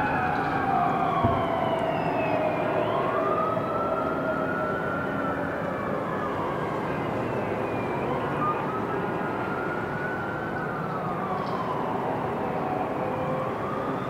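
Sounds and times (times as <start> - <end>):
city background noise: 0.0 - 14.0
emergency siren wailing: 0.0 - 14.0.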